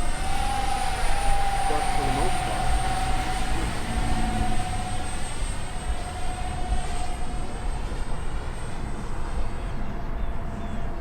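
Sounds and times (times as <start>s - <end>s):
electric ducted fans whining: 0.0s - 11.0s.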